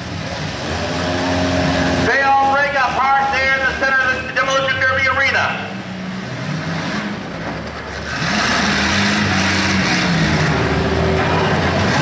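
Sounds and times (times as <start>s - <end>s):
car engine revving: 0.0s - 12.0s
car engines running: 0.0s - 12.0s.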